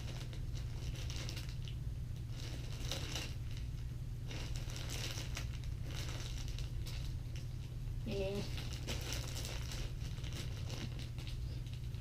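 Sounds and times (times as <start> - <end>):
plastic bags crinkling: 0.0 - 12.0
steady low hum: 0.0 - 12.0.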